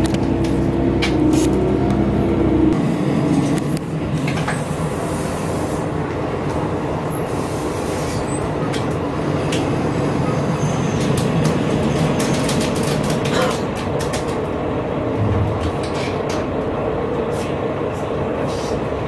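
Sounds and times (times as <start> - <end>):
diesel railcar engine hum: 0.0 - 19.0
wheels rumbling on rails: 0.0 - 19.0.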